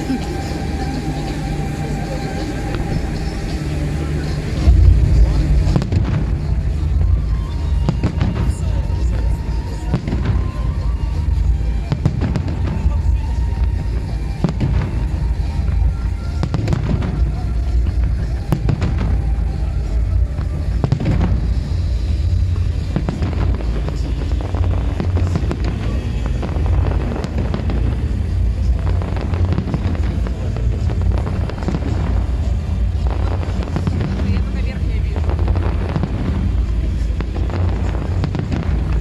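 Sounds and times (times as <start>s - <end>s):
fireworks bangs: 0.0s - 39.0s
low rumble: 0.0s - 39.0s.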